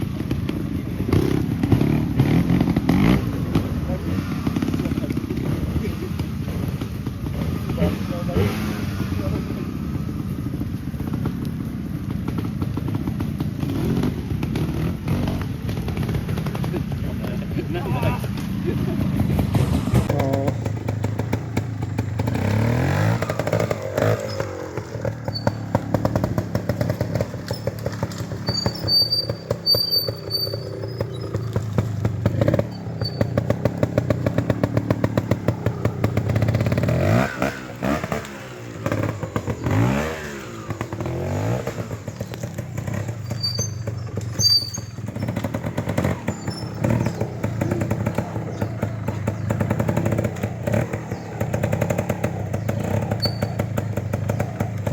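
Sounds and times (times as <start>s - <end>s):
motorcycle engine throttle blips: 0.0s - 54.9s.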